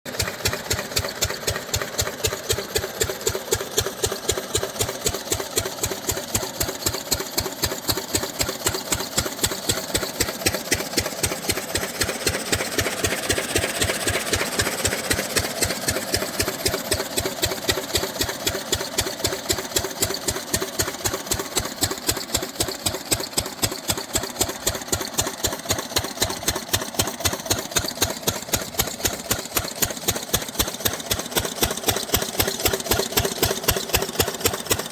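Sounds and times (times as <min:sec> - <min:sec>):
diesel pump engine running: 0:00.1 - 0:34.9.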